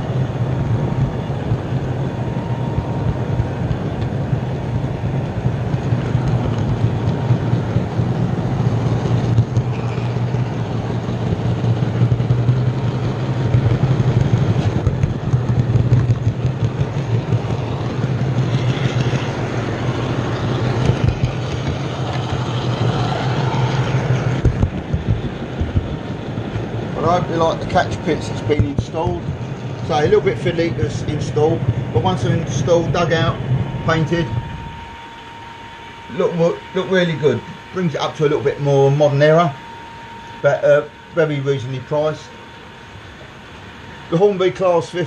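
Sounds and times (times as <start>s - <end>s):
model train running on track: 0.0s - 45.0s.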